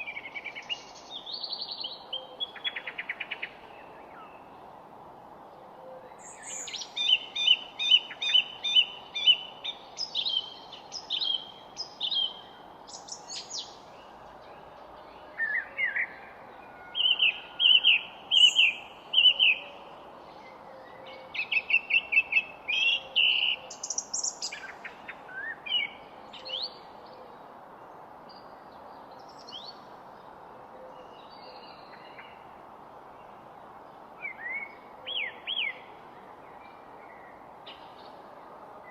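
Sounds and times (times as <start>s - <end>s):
low background hiss: 0.0s - 38.9s
songbirds chirping and trilling: 0.0s - 38.9s.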